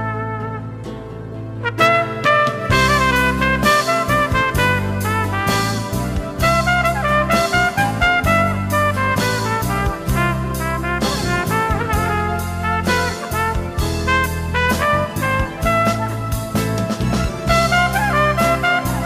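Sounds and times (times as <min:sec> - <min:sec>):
trumpet playing quick notes: 0:01.6 - 0:19.0
sustained low bass line: 0:02.7 - 0:19.0.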